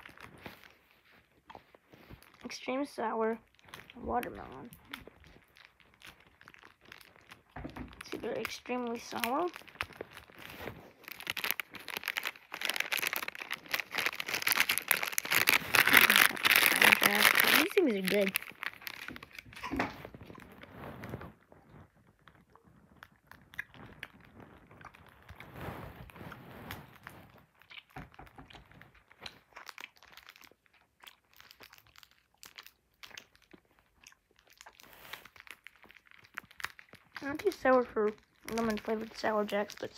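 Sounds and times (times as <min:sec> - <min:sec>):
candy wrapper crinkling: 0:00.0 - 0:39.9.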